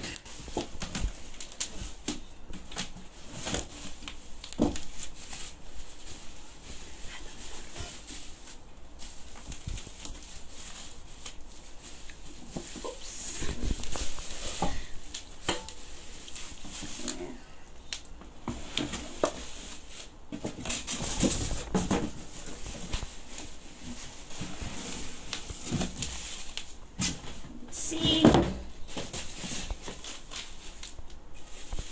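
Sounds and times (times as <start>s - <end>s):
bubble wrap crinkling: 0.0s - 31.9s.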